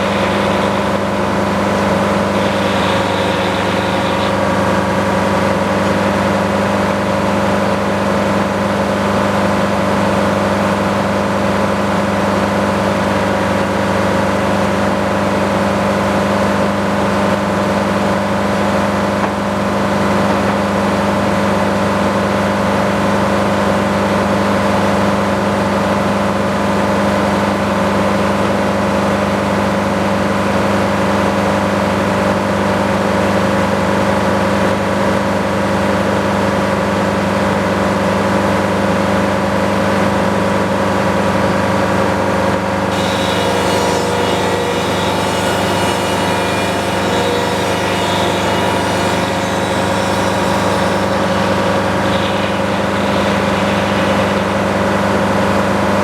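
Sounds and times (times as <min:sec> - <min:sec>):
sawmill engine and saw drone: 0:00.0 - 0:56.0.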